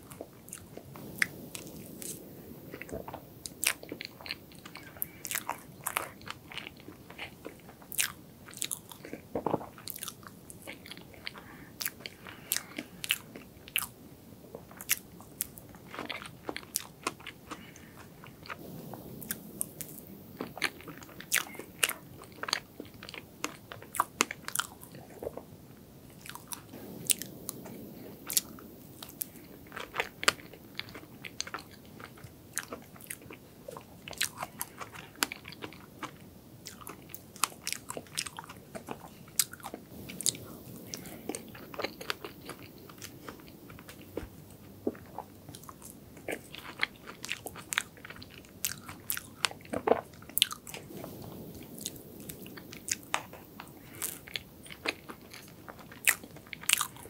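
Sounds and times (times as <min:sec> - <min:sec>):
person chewing cake: 0:00.0 - 0:25.5, 0:26.1 - 0:57.0.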